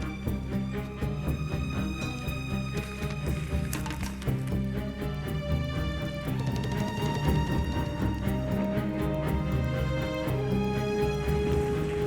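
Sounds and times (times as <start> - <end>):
soundtrack music with held notes: 0.0 - 12.0.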